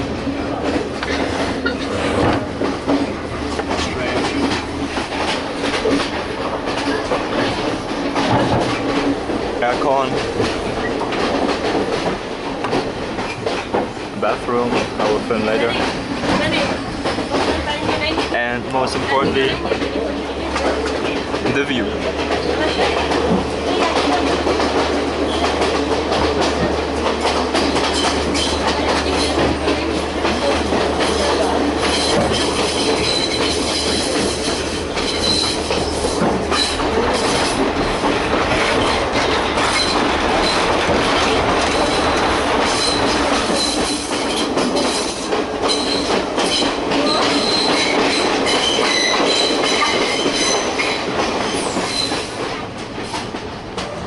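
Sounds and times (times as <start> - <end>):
train rumble: 0.0 - 54.0
wheels clacking over rail joints: 0.0 - 54.0.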